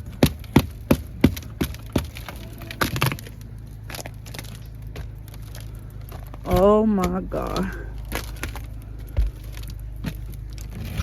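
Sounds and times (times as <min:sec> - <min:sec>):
footsteps crunching on ice: 0:00.0 - 0:11.0.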